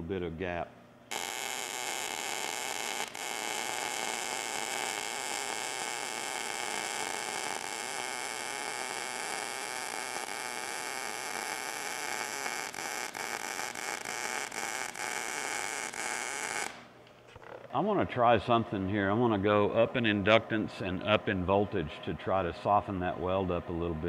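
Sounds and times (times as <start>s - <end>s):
welding arc buzzing hiss: 1.1s - 24.0s.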